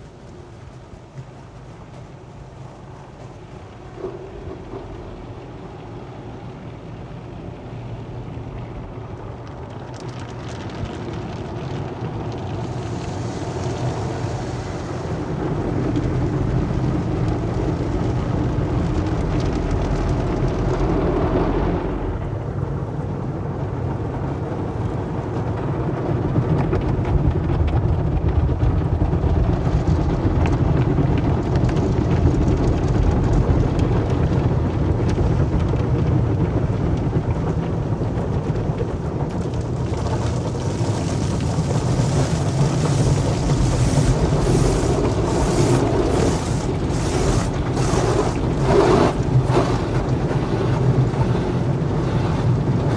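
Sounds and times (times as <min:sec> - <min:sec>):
muffled low rumble of wash equipment: 0:00.0 - 0:52.9
water spraying on car: 0:00.1 - 0:22.5, 0:29.0 - 0:52.9.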